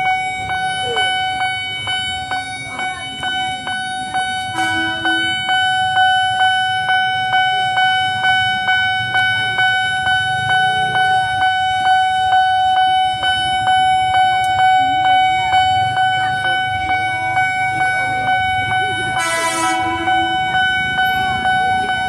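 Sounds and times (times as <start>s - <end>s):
level-crossing warning alarm: 0.0s - 22.0s.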